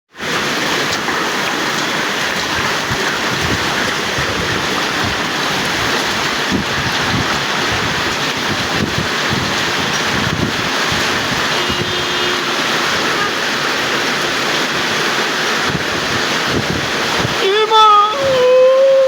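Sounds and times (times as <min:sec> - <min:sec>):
heavy rain pouring: 0:00.2 - 0:19.0.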